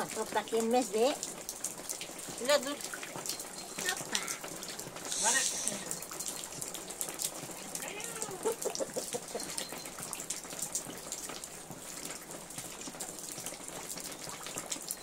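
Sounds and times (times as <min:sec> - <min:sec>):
water dripping and spattering: 0:00.0 - 0:15.0
water running and splashing: 0:00.0 - 0:15.0.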